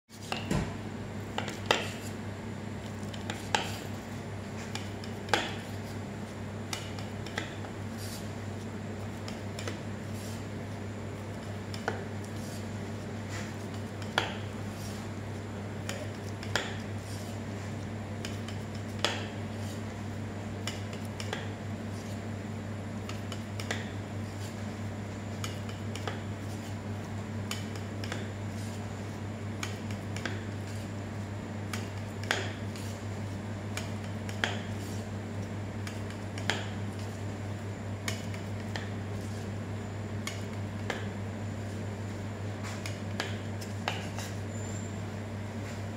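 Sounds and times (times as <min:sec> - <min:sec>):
steady low hum: 0:00.1 - 0:45.9.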